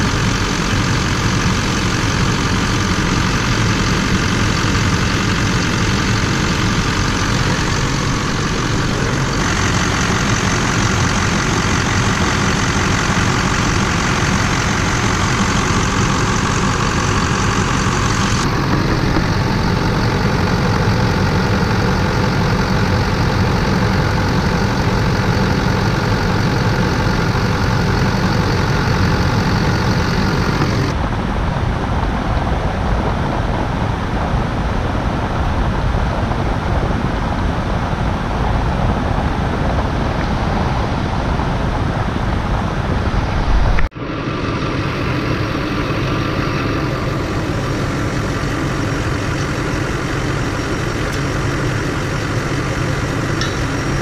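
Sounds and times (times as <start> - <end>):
pickup truck engine idling: 0.0 - 54.0.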